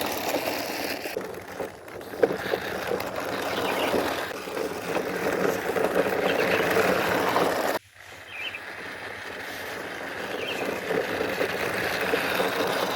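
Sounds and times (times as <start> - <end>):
toy cars humming: 0.0 - 12.9.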